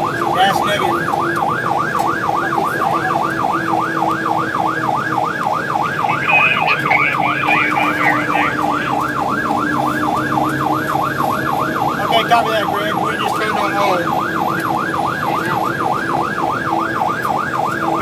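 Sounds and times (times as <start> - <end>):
fire truck siren yelping: 0.0 - 18.0.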